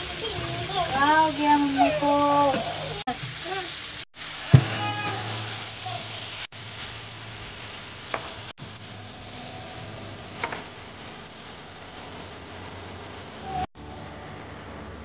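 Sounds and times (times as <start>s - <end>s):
chicken sizzling in frying pan: 0.0s - 13.7s.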